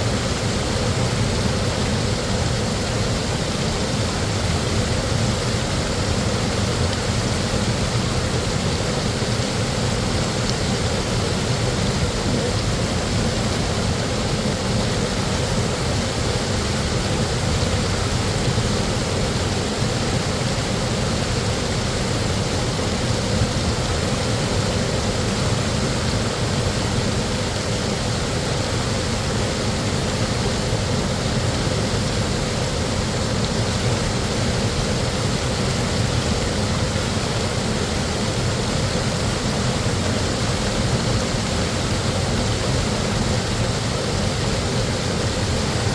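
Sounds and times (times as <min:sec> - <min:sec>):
waterfall roaring: 0:00.0 - 0:45.9.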